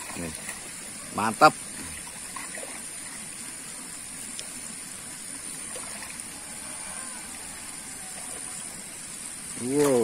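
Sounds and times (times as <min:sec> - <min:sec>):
pond water splashing: 0:00.0 - 0:10.0.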